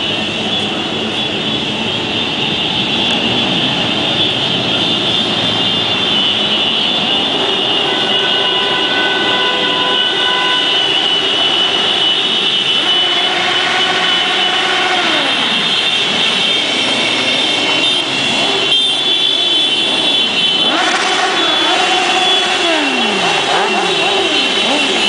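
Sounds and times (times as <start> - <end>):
many motorcycle engines: 0.0 - 25.0.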